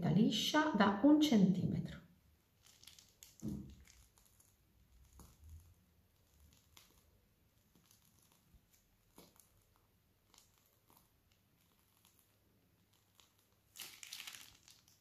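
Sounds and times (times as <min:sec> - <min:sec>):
piping bag rustling and squishing: 0:02.3 - 0:15.0.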